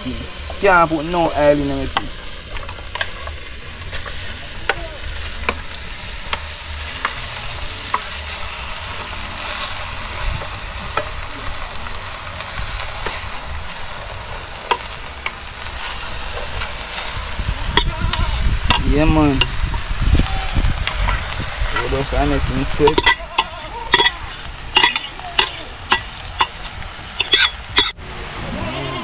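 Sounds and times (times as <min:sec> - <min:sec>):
meat sizzling in a pot: 0:00.0 - 0:28.0.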